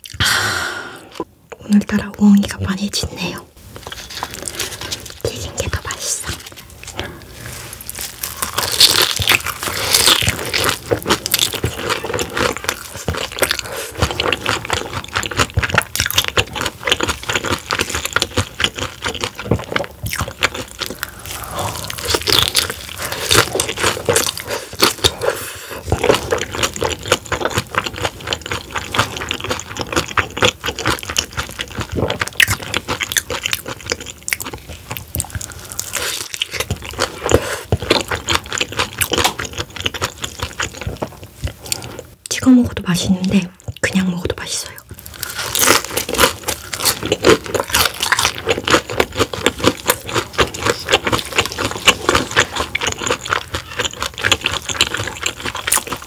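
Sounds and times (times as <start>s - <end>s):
crunching and chewing fried food: 2.2s - 56.0s.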